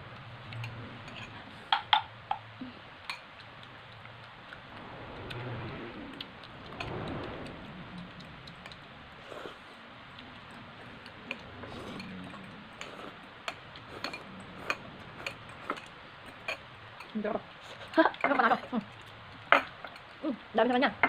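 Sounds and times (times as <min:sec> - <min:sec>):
soft chewing: 0:02.5 - 0:20.5.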